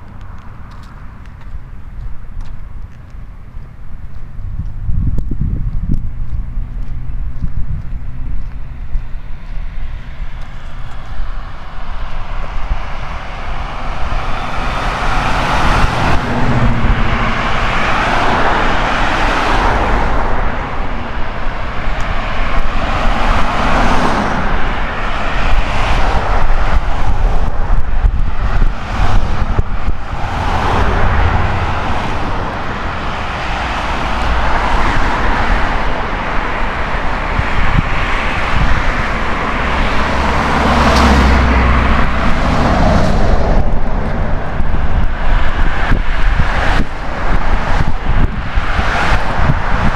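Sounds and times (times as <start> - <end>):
cars driving by: 0.0 - 49.9
steady low traffic rumble: 0.0 - 49.9.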